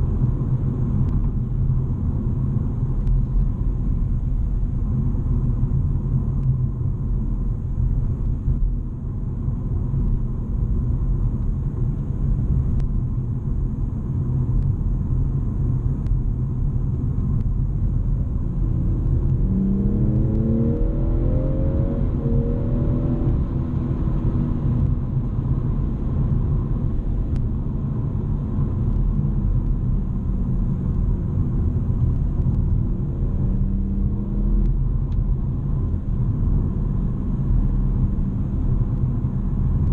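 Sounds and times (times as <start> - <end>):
car engine low rumble: 0.0 - 39.9
road noise: 0.0 - 39.9.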